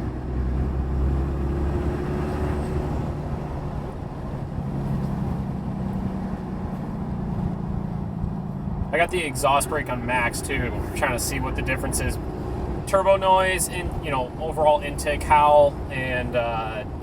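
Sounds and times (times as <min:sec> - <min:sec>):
diesel truck engine running: 0:00.0 - 0:17.0
road noise: 0:00.0 - 0:17.0.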